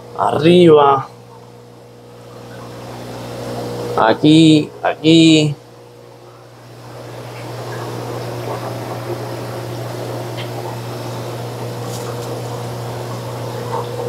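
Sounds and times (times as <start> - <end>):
aquarium water running: 0.0 - 14.0
low pump hum: 0.0 - 14.0.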